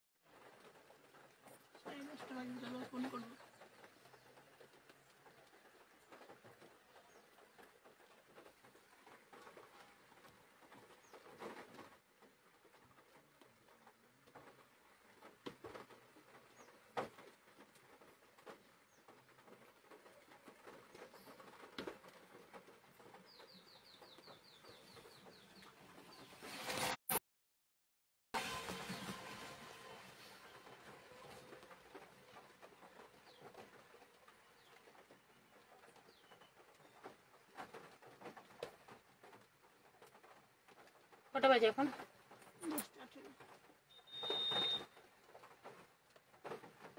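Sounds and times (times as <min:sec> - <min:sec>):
rain tapping on car roof: 0:00.3 - 0:26.3, 0:28.5 - 0:46.9.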